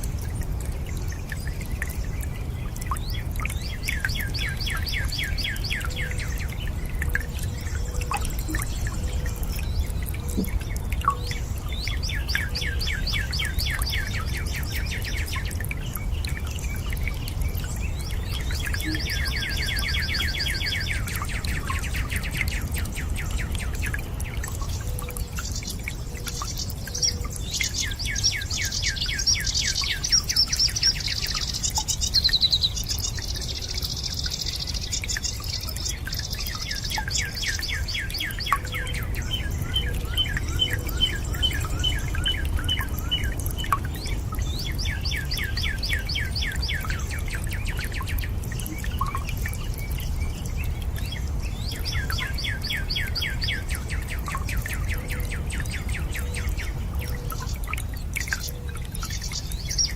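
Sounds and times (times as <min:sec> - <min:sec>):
low rush of water: 0:00.0 - 0:59.9
water dripping: 0:00.0 - 0:59.9
birds singing fast trills: 0:01.2 - 0:59.9.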